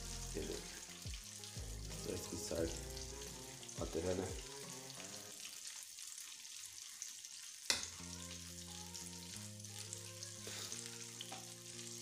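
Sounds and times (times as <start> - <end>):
background music with held notes: 0.0 - 5.4, 7.7 - 12.0
chicken frying in hot oil: 0.0 - 12.0.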